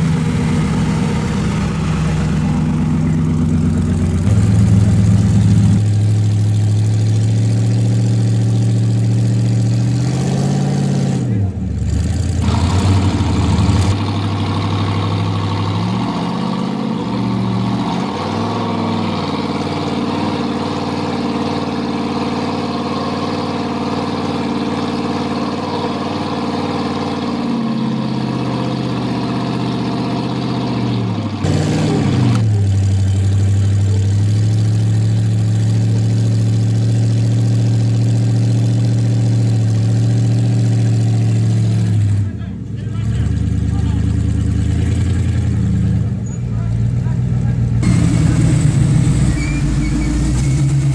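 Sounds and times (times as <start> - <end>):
buggy engine revving: 0.0 - 50.9.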